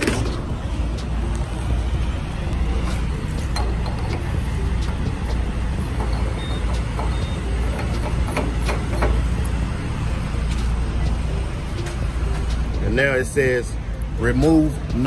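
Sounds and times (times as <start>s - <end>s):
diesel trucks idling: 0.0s - 15.0s.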